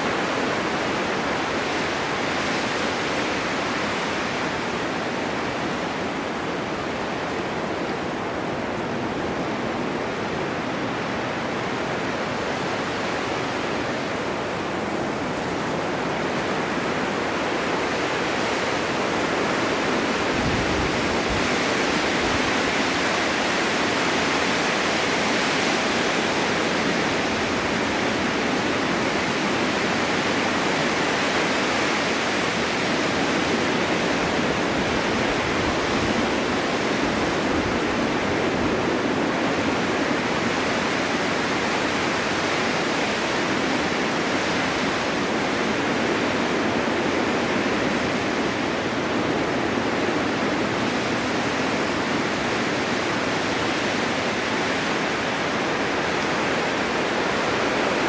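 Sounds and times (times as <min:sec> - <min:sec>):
wind blowing steadily: 0:00.0 - 0:58.0.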